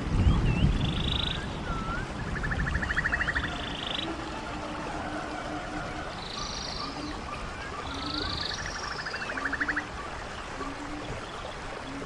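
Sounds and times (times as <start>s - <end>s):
stream running: 0.0s - 12.0s
small birds calling: 0.2s - 12.0s.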